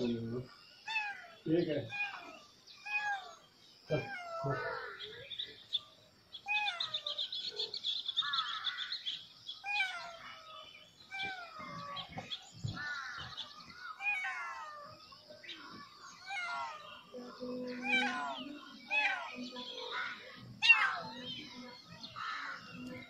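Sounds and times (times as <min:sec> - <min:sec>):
kittens meowing: 0:00.8 - 0:05.6, 0:06.4 - 0:09.0, 0:09.6 - 0:23.0.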